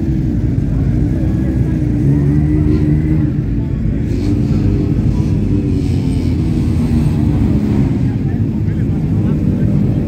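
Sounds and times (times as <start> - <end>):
race cars driving past: 0.0 - 10.0.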